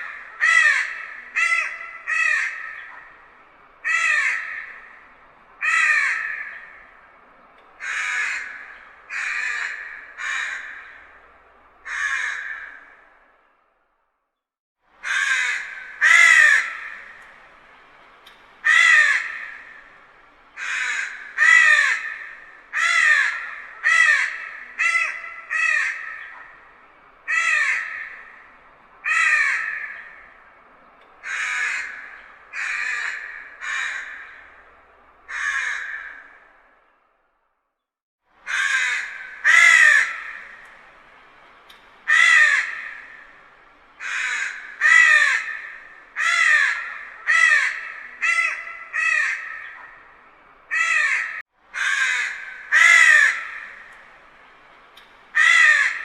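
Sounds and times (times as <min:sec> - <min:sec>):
crow cawing: 0:00.0 - 0:13.3, 0:15.0 - 0:17.5, 0:18.6 - 0:30.6, 0:31.2 - 0:36.8, 0:38.5 - 0:41.0, 0:42.1 - 0:54.1, 0:55.4 - 0:56.0.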